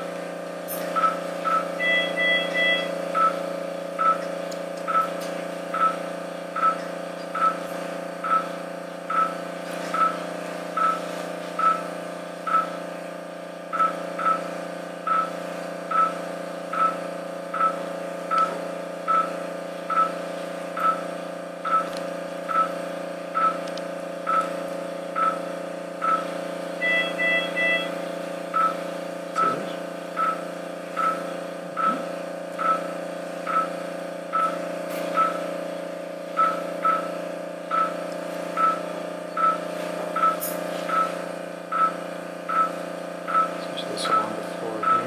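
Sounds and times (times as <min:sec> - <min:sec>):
equipment hum: 0:00.0 - 0:45.0
patient monitor beeping: 0:00.8 - 0:45.0.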